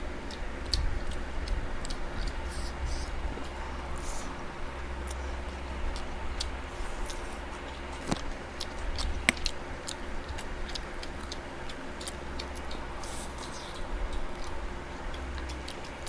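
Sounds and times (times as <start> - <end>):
steady low hum: 0.0 - 16.0
person chewing: 0.1 - 16.0.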